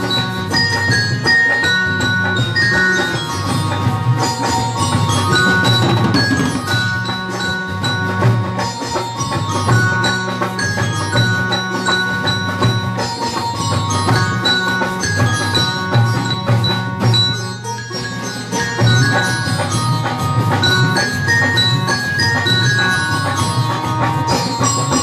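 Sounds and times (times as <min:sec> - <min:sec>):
keyboard bell-like mallet notes: 0:00.0 - 0:25.0
sitars: 0:00.0 - 0:25.0
steady drum beat: 0:00.0 - 0:25.0.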